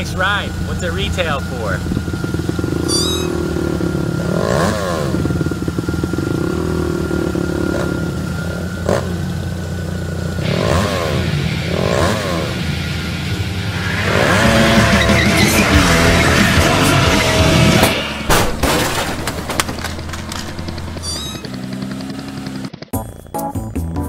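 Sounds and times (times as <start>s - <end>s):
car engine idling and revving: 0.0s - 23.3s.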